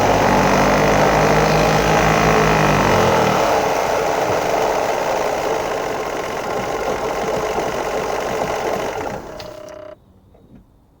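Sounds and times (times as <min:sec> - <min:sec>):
engine rattling knock: 0:00.0 - 0:10.0.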